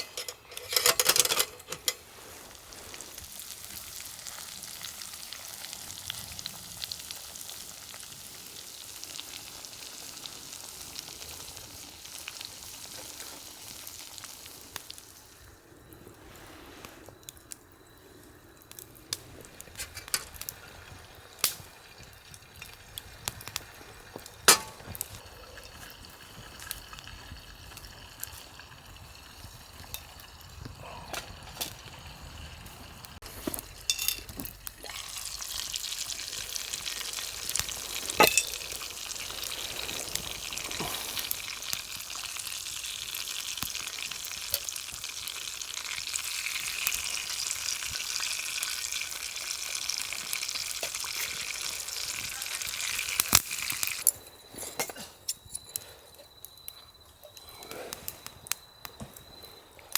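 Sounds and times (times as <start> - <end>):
food sizzling in a pan: 0.0 - 17.2, 17.9 - 54.2.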